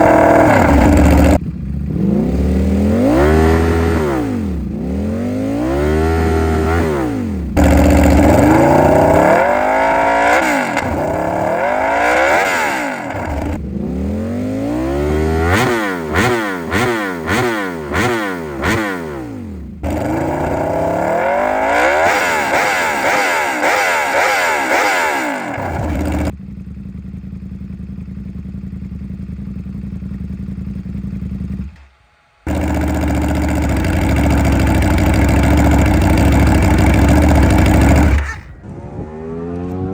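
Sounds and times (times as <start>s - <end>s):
motorcycle engine idling: 0.0s - 38.7s
motorcycle engine revving: 0.0s - 39.9s.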